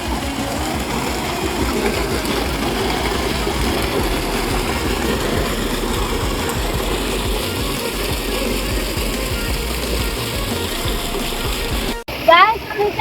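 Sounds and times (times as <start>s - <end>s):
pump engine drone: 0.0s - 13.0s
rushing water: 0.0s - 13.0s.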